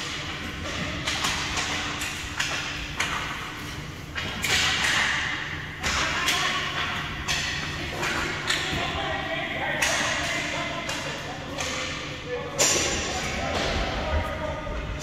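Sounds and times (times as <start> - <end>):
hockey sticks and puck clacking: 0.0 - 14.2.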